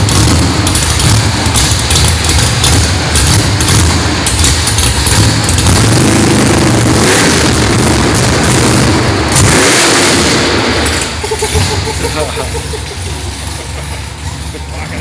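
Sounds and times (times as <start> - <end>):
car engine revving loudly: 0.0 - 12.5.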